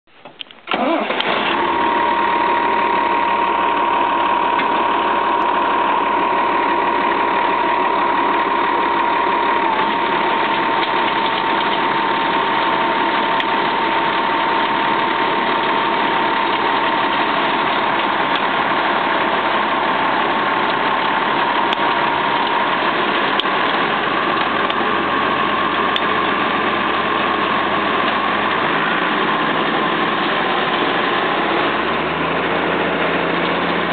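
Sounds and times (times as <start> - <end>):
constant machine whine: 0.2 - 33.9
stone separator machinery working: 0.7 - 33.9.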